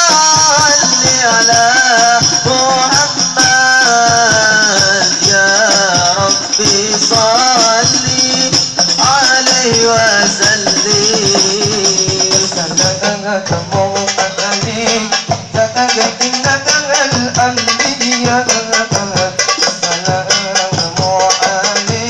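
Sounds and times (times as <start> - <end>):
frame drums beating: 0.0 - 22.0
person singing: 0.0 - 22.0.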